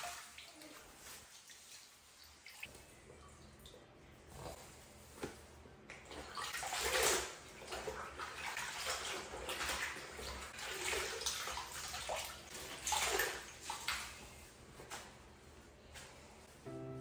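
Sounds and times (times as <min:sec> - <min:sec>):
water splashing and sloshing: 0:00.0 - 0:15.2.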